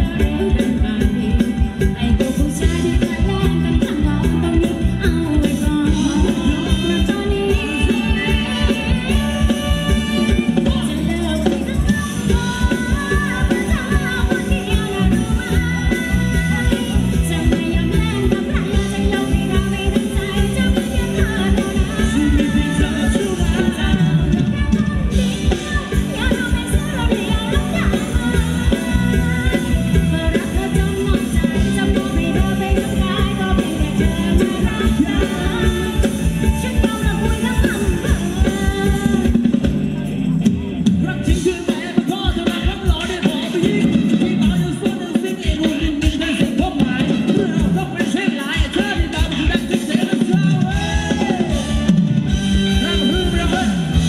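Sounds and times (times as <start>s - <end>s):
person singing: 0.0s - 40.0s, 41.0s - 54.0s
bass line: 0.0s - 54.0s
live band music: 0.0s - 54.0s
steady drum beat: 0.0s - 54.0s.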